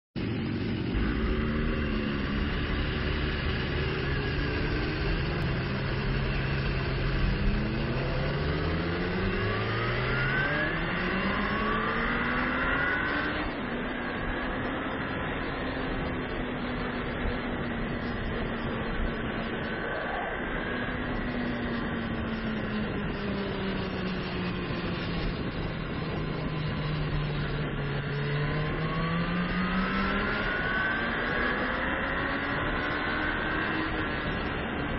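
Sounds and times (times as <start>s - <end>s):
motorcycle engine accelerating: 0.2s - 34.9s
wind noise: 0.4s - 34.9s.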